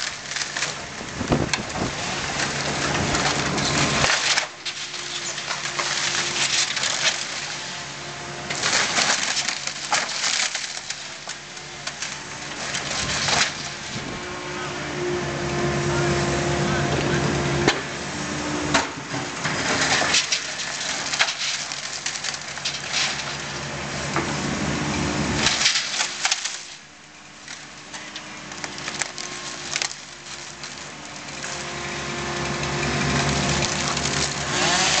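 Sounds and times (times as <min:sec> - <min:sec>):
wood cracking and crunching: 0:00.0 - 0:14.2, 0:18.7 - 0:35.0
excavator engine running: 0:00.0 - 0:35.0.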